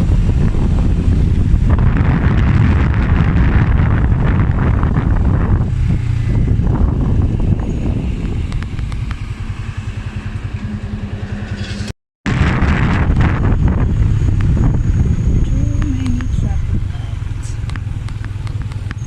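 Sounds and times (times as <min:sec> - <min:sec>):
wind buffeting microphone: 0:00.0 - 0:11.0, 0:12.3 - 0:19.0
motorcycle engine rumble: 0:00.0 - 0:19.0.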